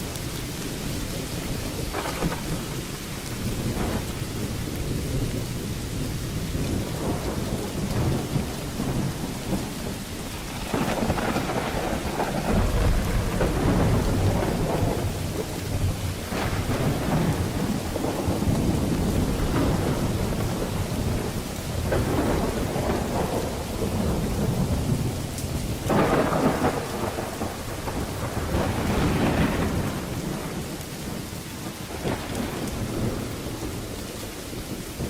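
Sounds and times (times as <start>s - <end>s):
heavy rain: 0.0s - 35.0s
rolling thunder: 0.8s - 35.0s.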